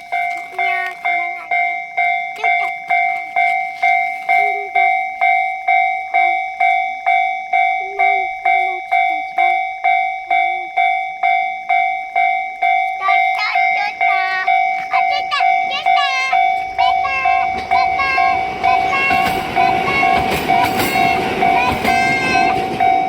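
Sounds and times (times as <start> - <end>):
level-crossing warning bell: 0.0 - 23.0.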